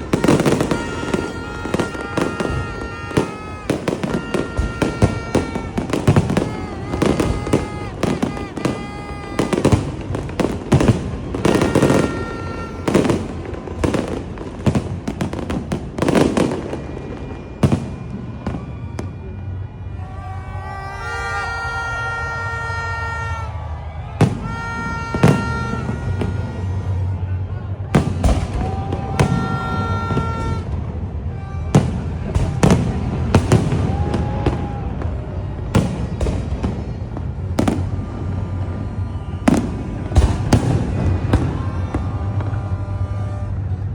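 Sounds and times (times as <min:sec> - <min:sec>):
fireworks bangs and booms: 0:00.0 - 0:43.9.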